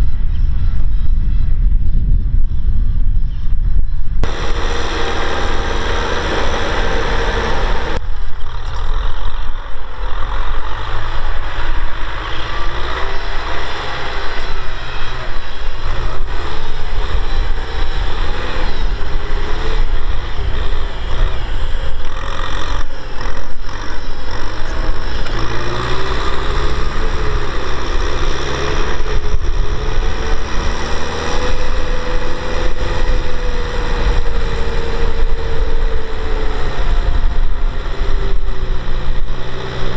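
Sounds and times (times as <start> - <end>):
tractor diesel engine running hard: 4.2 - 39.9.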